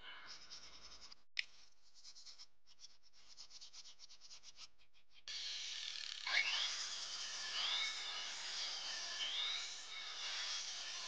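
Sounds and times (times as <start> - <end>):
scratchy hand sanding strokes: 0.3 - 5.7, 6.7 - 11.0.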